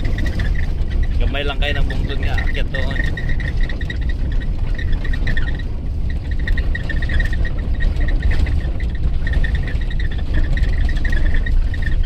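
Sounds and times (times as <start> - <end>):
vehicle engine on rough trail: 0.0 - 12.0
wind rumble on microphone: 0.0 - 12.0.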